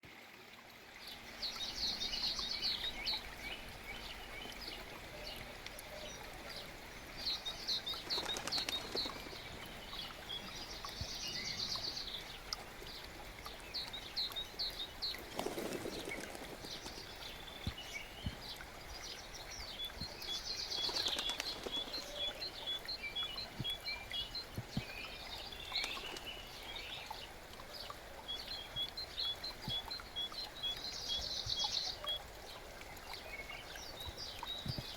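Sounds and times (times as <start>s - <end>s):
brook murmuring: 0.6s - 34.9s
songbirds singing: 0.8s - 34.9s.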